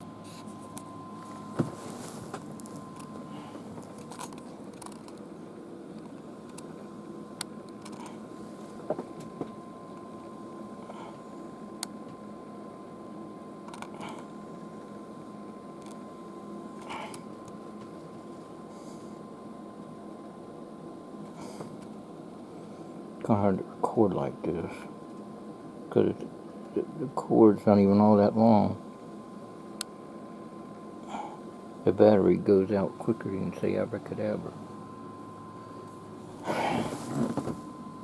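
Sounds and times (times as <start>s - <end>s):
faint high whine: 0.0s - 38.0s
steady hum: 0.0s - 38.0s.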